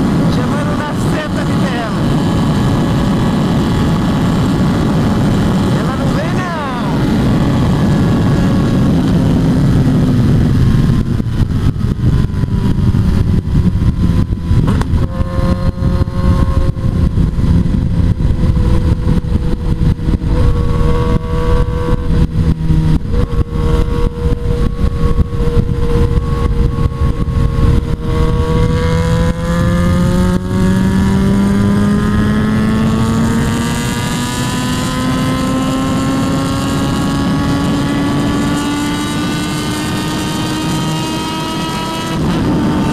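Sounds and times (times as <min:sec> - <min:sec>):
motorcycle engine accelerating: 0:00.0 - 0:42.9
wind rumble: 0:00.0 - 0:42.9.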